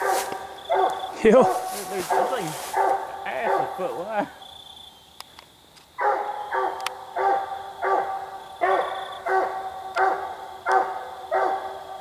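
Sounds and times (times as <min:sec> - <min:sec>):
hound barking: 0:00.0 - 0:04.3, 0:06.0 - 0:12.0.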